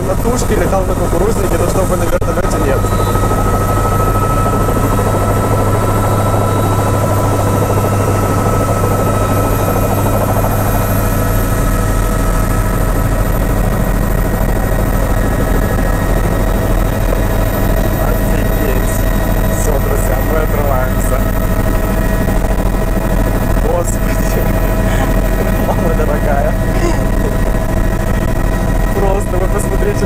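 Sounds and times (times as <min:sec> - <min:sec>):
helicopter deep drone: 0:00.0 - 0:30.0
turbine high whine: 0:00.0 - 0:30.0.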